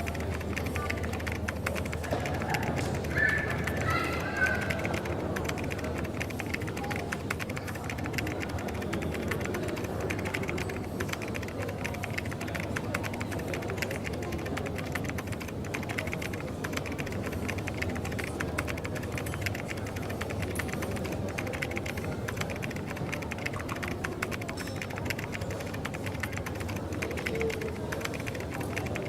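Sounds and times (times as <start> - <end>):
coffee shop murmur: 0.0 - 29.0
keyboard typing: 0.0 - 29.0.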